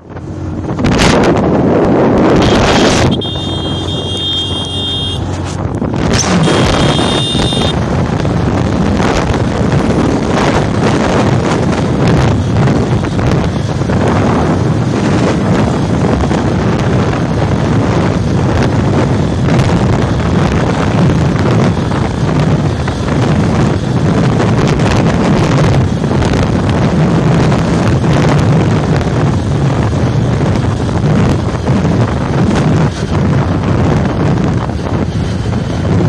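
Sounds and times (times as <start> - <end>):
motorcycle engine running: 0.0 - 35.8
wind buffeting microphone: 0.0 - 36.0.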